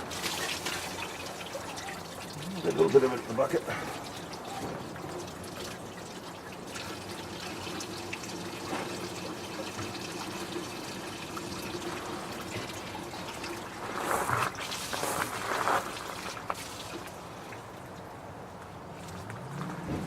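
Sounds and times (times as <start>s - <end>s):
liquid trickling into bucket: 0.0s - 18.2s.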